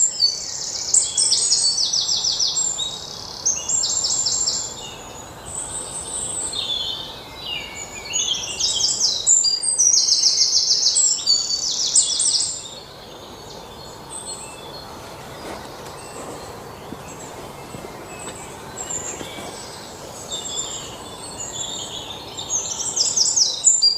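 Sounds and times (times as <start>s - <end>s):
outdoor background hiss: 0.0s - 23.9s
songbirds trilling and chirping: 0.0s - 23.9s.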